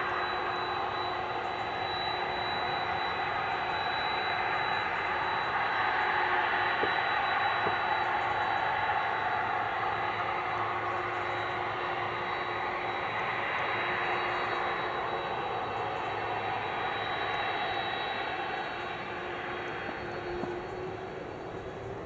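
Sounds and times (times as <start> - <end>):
jet engines running with whine: 0.0 - 22.0.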